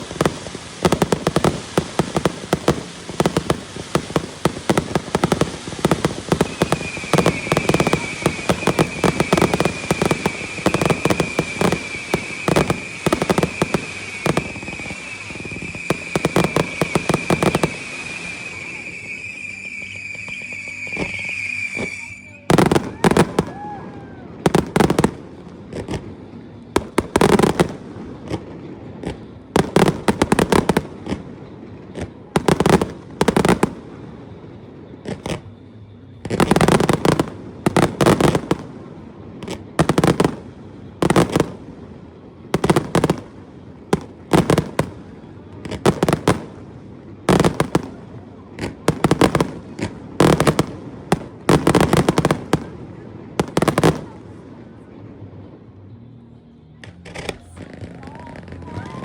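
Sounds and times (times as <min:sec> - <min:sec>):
fireworks bursting with bangs: 0:00.0 - 0:59.0.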